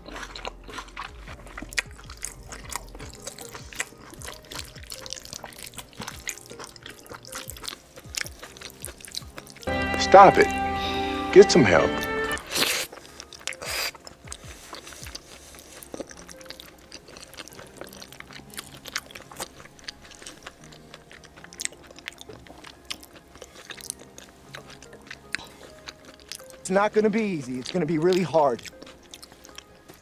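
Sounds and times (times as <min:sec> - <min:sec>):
chewing and crunching: 0:00.0 - 0:09.7, 0:12.5 - 0:30.0
faint background music: 0:00.0 - 0:30.0.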